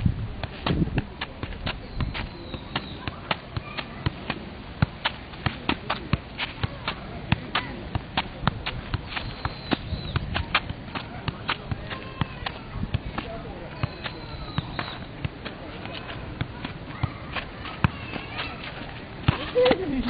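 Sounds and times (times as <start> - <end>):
soccer ball taps off feet: 0.4 - 20.0.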